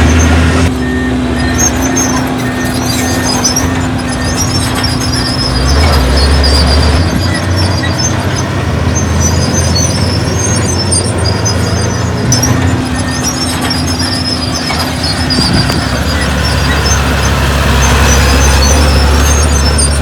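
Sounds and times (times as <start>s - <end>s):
diesel engine running: 0.0s - 20.0s
high-pitched squeaks: 0.0s - 20.0s.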